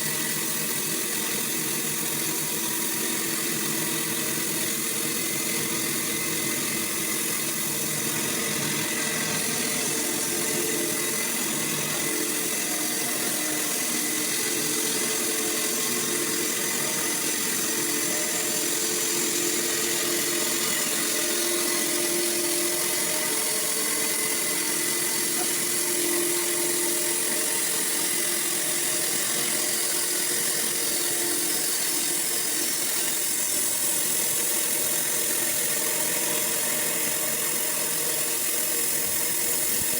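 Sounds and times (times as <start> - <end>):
high machine whine: 0.0 - 39.9
sawmill machinery drone: 0.0 - 39.9.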